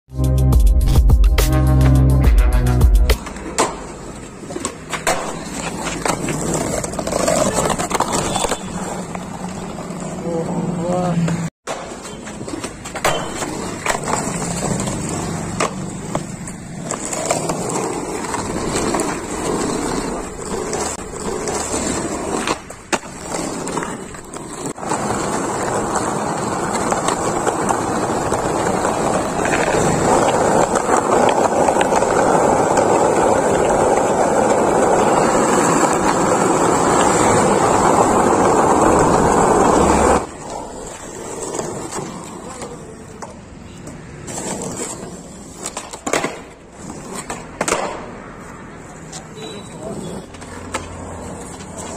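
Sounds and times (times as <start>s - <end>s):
skateboard wheels rolling on asphalt: 3.0s - 51.9s
skateboard clacks: 3.1s - 10.6s, 11.3s - 51.9s.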